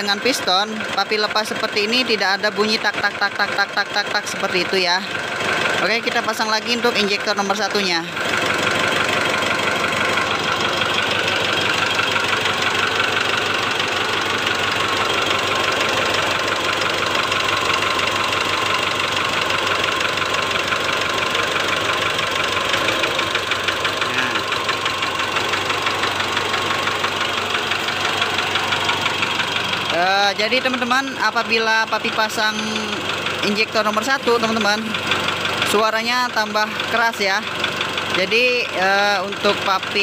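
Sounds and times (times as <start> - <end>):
diesel engine idling with knock: 0.0 - 40.0.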